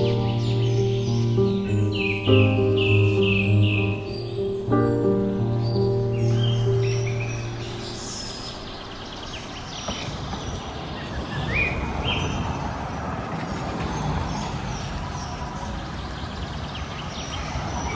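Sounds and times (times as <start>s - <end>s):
birds chirping: 0.0s - 13.0s, 13.9s - 17.9s.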